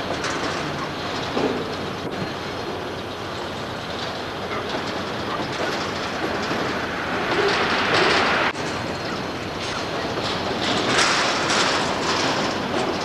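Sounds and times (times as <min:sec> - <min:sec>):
freight train wagons rumbling: 0:00.0 - 0:13.0
wheels clickety-clack: 0:00.0 - 0:13.0.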